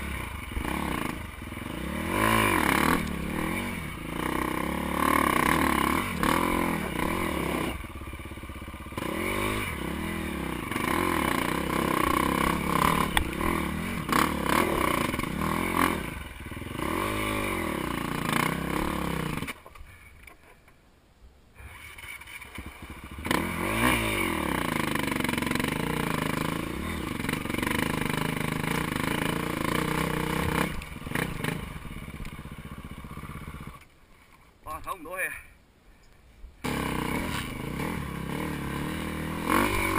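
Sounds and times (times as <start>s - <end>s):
dirt bike engine revving: 0.0s - 19.6s, 21.6s - 33.8s, 36.6s - 39.9s.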